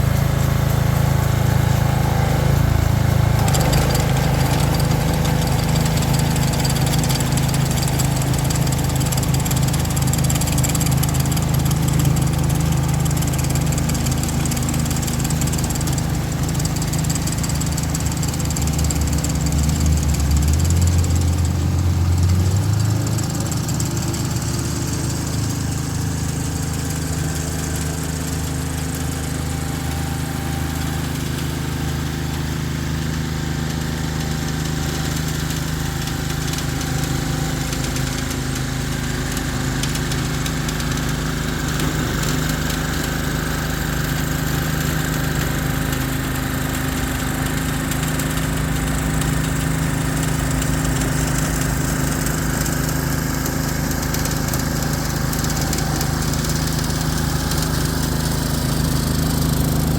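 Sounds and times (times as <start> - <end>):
engine running under load: 0.0 - 59.9.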